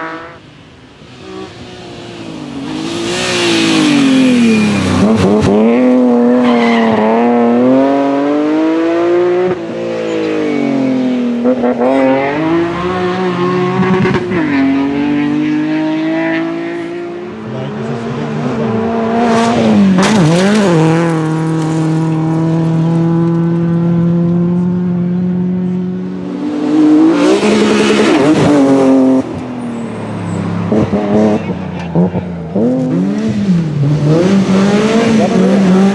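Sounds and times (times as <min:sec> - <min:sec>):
rally car engine accelerating: 0:01.1 - 0:35.9.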